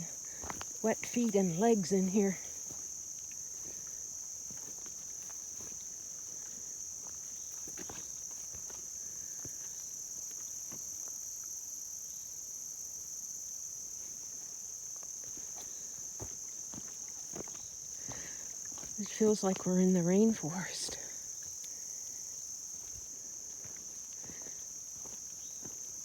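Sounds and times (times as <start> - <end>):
footsteps through wet undergrowth: 0.0 - 11.2, 14.0 - 26.0
crickets trilling: 0.0 - 26.0.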